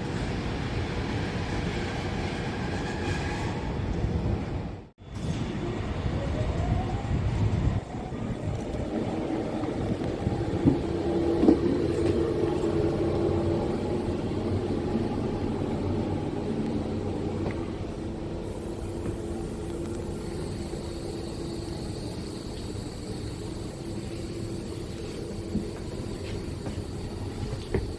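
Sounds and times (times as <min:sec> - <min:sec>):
electric train rumble: 0:00.0 - 0:27.9
train motor whine: 0:05.1 - 0:27.9.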